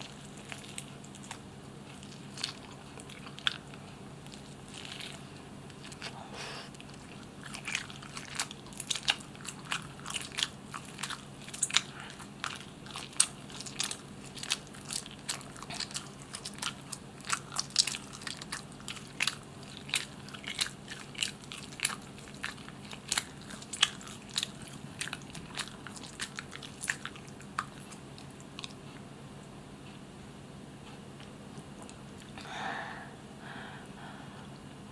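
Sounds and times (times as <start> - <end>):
chewing and biting: 0.0 - 29.2, 30.8 - 32.4.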